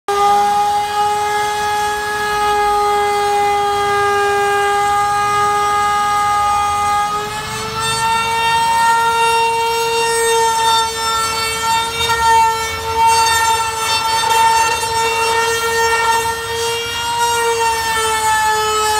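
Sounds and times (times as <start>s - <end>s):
trimmer router whining: 0.1s - 18.9s.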